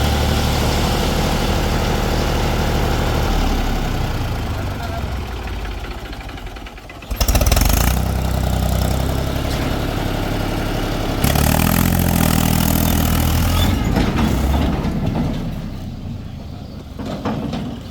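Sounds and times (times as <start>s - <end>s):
diesel engine revving: 0.0s - 17.9s.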